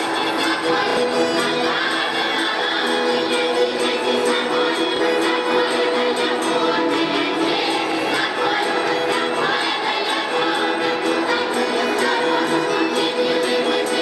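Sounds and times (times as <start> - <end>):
folk ensemble singing in chorus: 0.0 - 14.0.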